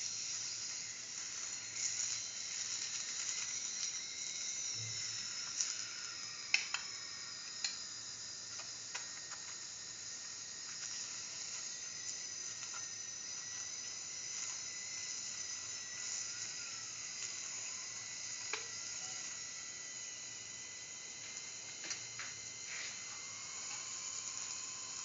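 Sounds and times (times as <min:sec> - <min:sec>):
flatbread sizzling in a pan: 0:00.0 - 0:25.0.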